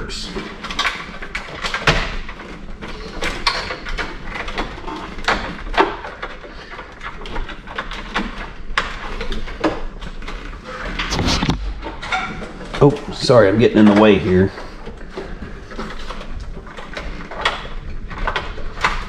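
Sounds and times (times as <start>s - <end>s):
parts being handled: 0.0s - 19.0s.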